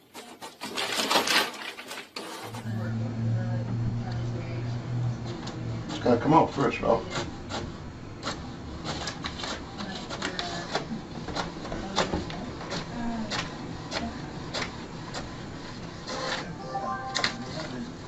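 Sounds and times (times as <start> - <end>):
printer whirring: 0.4 - 18.0.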